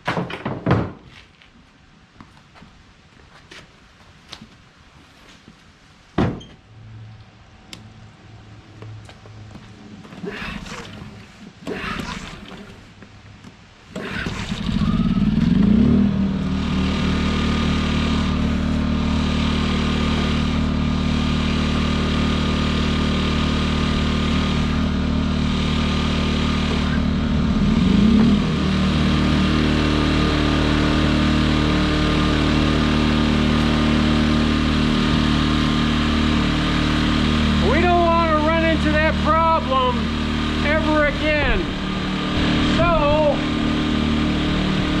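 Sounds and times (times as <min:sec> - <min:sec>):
second generator running: 0:06.5 - 0:45.0
generator engine running: 0:06.6 - 0:45.0.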